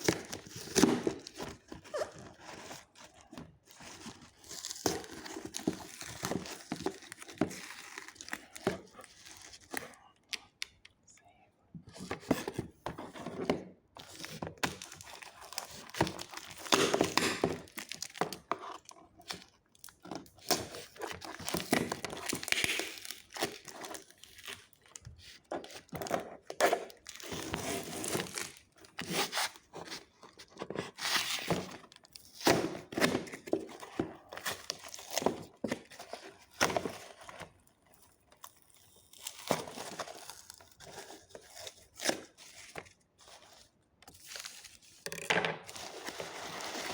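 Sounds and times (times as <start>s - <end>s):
packaging rustling and tearing: 0.0s - 10.0s, 12.1s - 46.9s.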